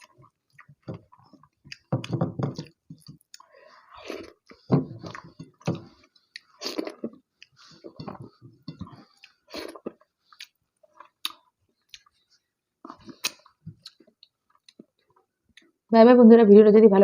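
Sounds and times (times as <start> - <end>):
wet chewing: 0.0 - 15.8.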